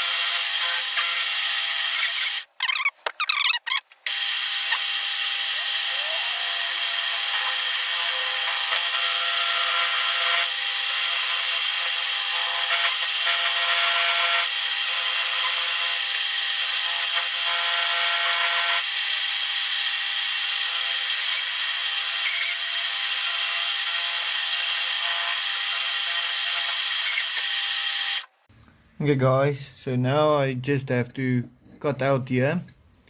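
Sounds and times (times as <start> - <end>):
power tool grinding steel: 0.0 - 2.5, 4.1 - 28.4.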